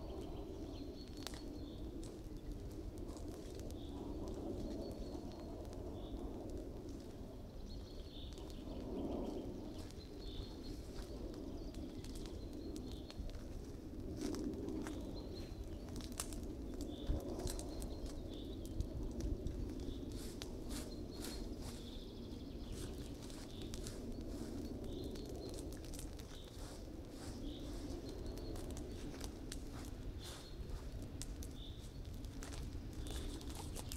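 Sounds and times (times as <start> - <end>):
bonfire crackling and popping: 0.0 - 33.9.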